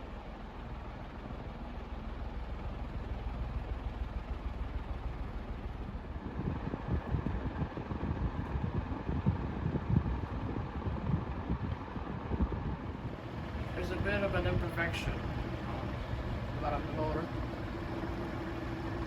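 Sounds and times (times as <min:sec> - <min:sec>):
ceiling fan motor hum: 0:00.0 - 0:19.0
fan draft buffeting microphone: 0:00.0 - 0:19.0
rush of air from fan: 0:00.0 - 0:19.0.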